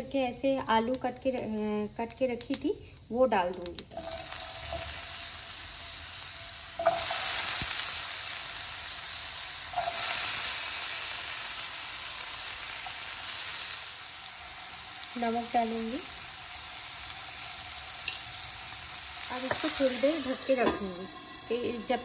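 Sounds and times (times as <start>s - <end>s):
potatoes sizzling in hot oil: 3.4s - 22.0s.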